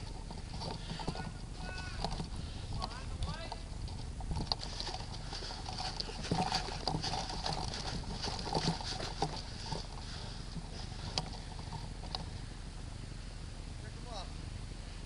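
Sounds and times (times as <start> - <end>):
soft clicks and rustling: 0.0 - 12.4
steady outdoor noise: 0.0 - 15.0.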